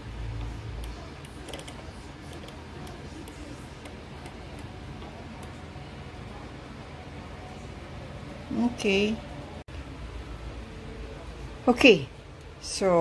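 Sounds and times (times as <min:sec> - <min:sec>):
oven low hum: 0:00.0 - 0:13.0.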